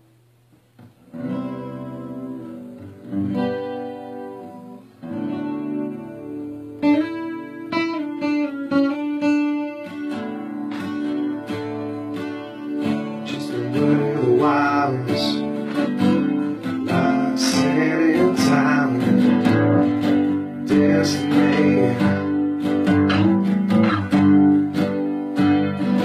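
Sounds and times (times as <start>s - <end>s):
guitar chords strummed: 0.0s - 26.0s
guitar notes picked: 0.0s - 26.0s.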